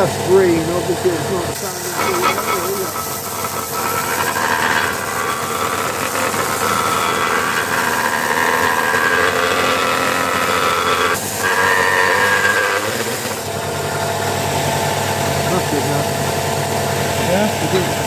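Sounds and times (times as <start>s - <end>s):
belt sander sanding wood: 0.6s - 18.0s.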